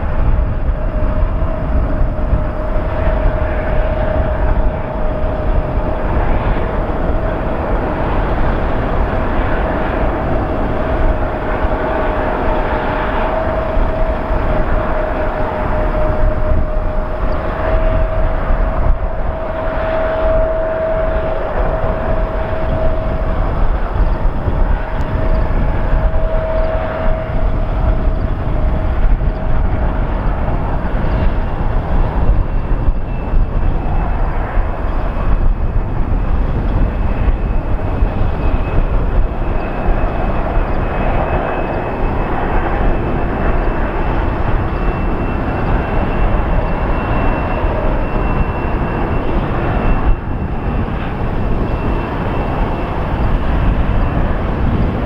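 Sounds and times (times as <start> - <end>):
faint high whine: 0.0 - 55.0
jet engines running: 0.0 - 55.0.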